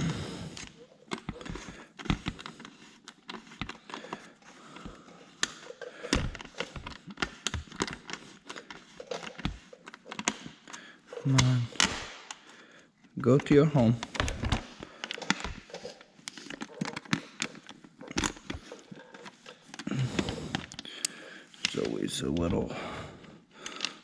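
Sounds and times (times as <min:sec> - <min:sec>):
metal parts clicking and knocking: 0:00.0 - 0:12.4, 0:13.4 - 0:22.5.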